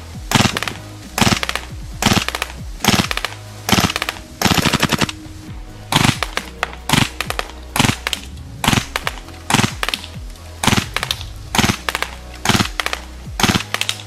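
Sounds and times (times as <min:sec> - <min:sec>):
airsoft gun firing bursts: 0:00.3 - 0:05.2, 0:05.9 - 0:14.0.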